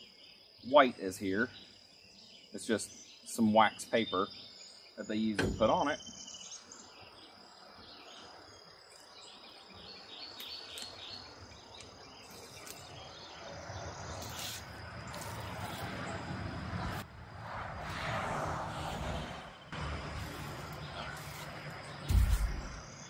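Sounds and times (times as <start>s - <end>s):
birds chirping: 0.0s - 17.0s, 18.7s - 23.0s
insects buzzing: 0.0s - 17.1s, 17.8s - 23.0s.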